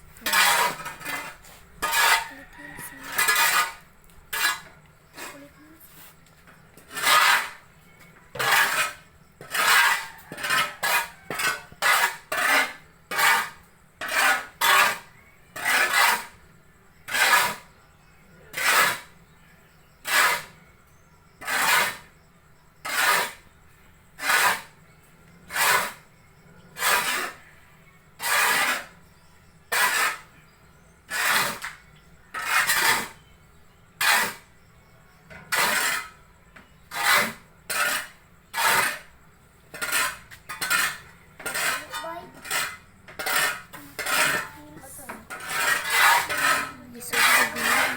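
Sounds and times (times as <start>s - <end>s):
tool scraping sawdust mixture: 0.1s - 23.6s, 24.2s - 27.5s, 28.1s - 47.9s.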